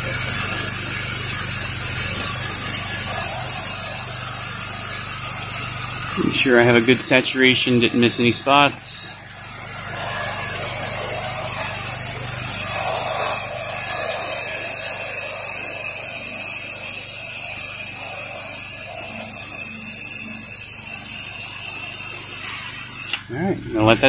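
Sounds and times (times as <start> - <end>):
pressure washer spray hiss: 0.0 - 23.2
pressure washer machine hum: 0.0 - 24.0.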